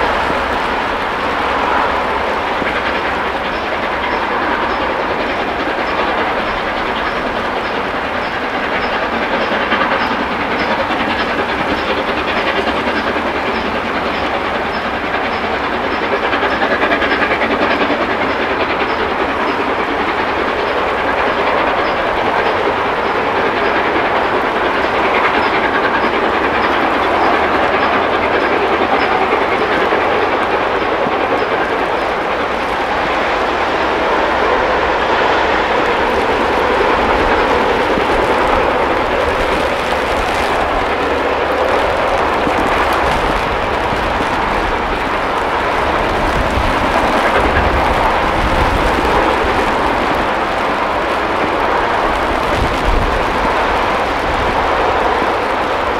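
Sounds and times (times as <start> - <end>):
steam locomotive exhaust roar: 0.0 - 55.9.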